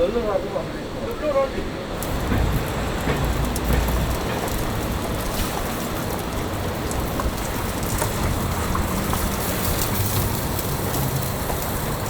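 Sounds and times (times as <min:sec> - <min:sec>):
chicken sizzling: 0:02.0 - 0:12.0.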